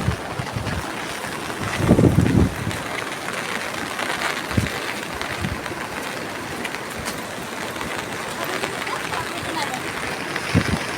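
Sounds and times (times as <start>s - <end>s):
rain hissing: 0.0s - 10.9s
wind thumping on microphone: 0.0s - 10.9s.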